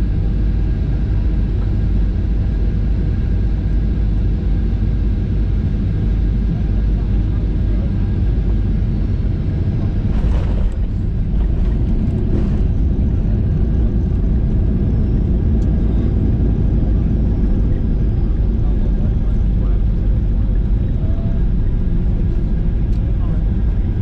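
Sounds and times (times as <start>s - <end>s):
jet engine and airflow rumble: 0.0s - 24.0s.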